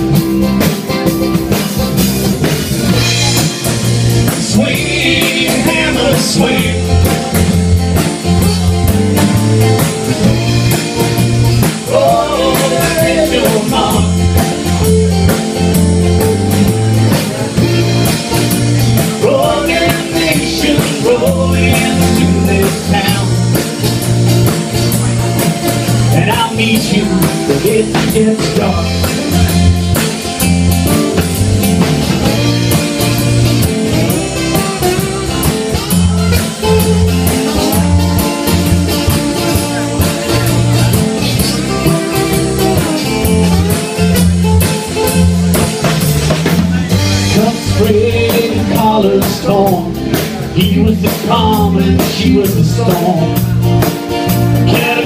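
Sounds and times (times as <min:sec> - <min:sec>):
drum kit: 0:00.0 - 0:55.0
electric bass: 0:00.0 - 0:55.0
electric guitars: 0:00.0 - 0:55.0.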